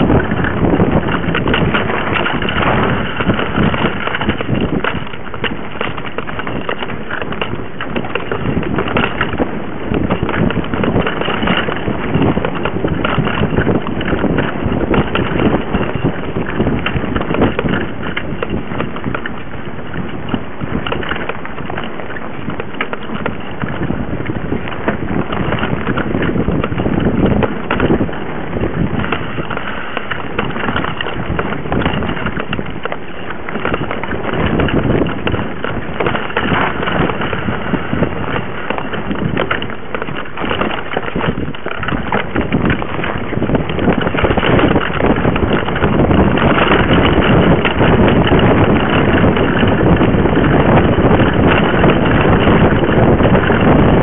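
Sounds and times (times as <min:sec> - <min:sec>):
bike rattling over rough ground: 0:00.0 - 0:54.0
tyres on dirt: 0:00.0 - 0:54.0.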